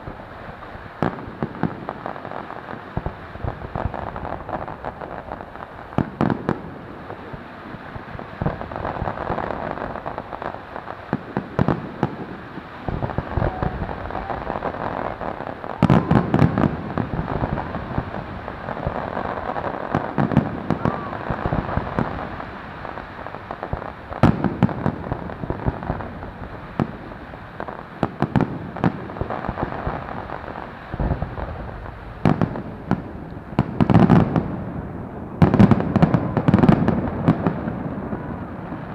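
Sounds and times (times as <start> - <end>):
fireworks bangs: 0.0 - 38.9
fireworks crackle: 0.0 - 38.9.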